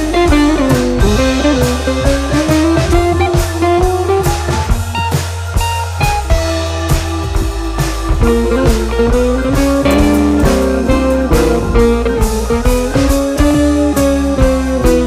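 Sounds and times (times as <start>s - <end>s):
blues-rock band music: 0.0s - 15.0s.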